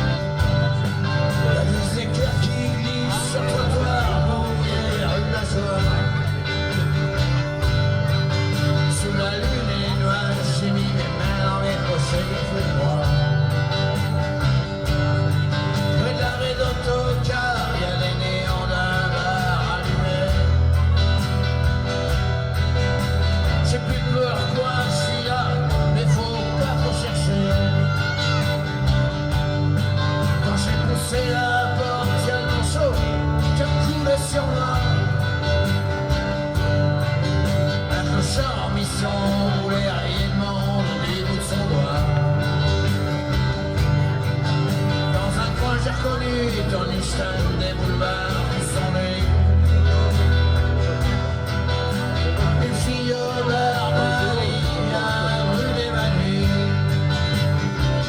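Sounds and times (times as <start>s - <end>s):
guitar-led instrumental music: 0.0s - 58.0s
sustained bass notes: 0.0s - 58.0s.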